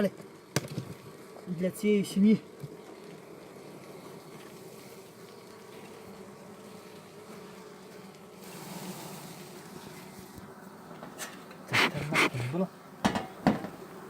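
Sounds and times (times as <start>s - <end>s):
bees buzzing: 0.2s - 14.0s.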